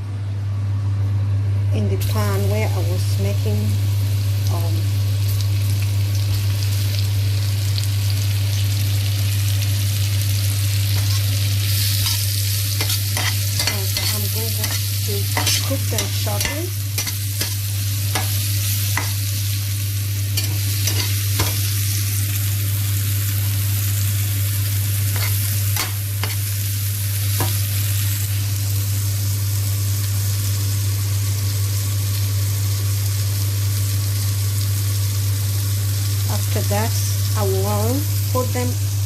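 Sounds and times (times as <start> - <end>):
steady low hum: 0.0 - 34.0
mushrooms sizzling in a pan: 2.0 - 39.0.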